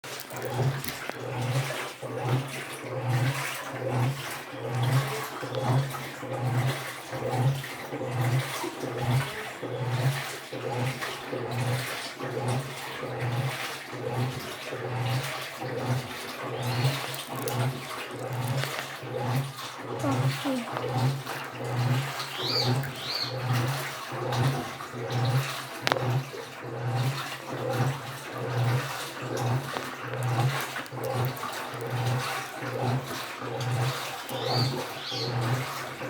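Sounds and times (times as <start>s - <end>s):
water sloshing: 0.0s - 12.6s, 13.5s - 36.0s
washing machine motor humming: 0.0s - 36.0s.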